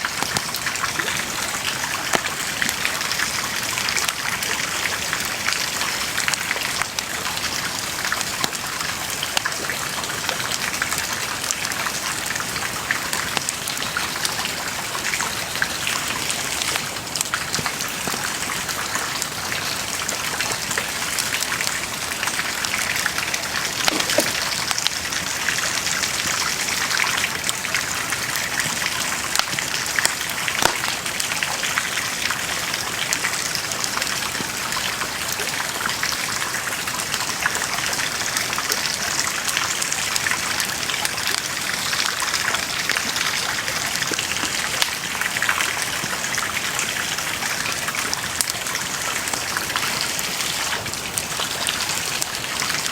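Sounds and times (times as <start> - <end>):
bonfire crackling and popping: 0.0 - 35.9, 37.1 - 46.5.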